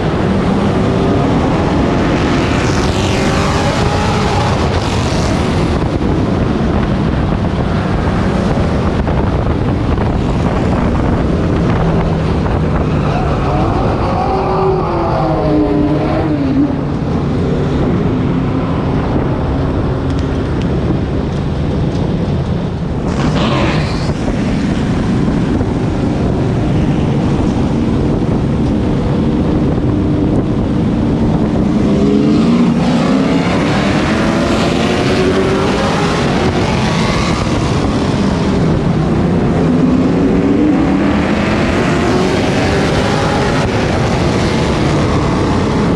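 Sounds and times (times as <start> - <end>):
race truck engine: 0.0 - 45.9
wind buffeting microphone: 0.0 - 45.9.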